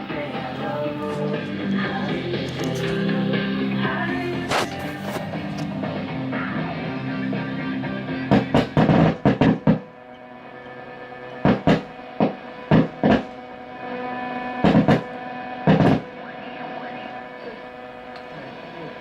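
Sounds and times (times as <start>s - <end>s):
music with loud drum hits on radio: 0.0s - 17.3s.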